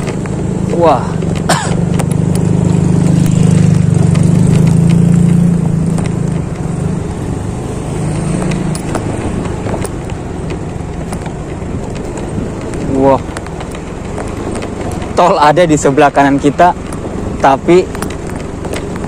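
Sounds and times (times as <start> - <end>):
clicks and rattles from bumpy ground: 0.0 - 19.0
motorcycle engine hum: 0.0 - 19.0.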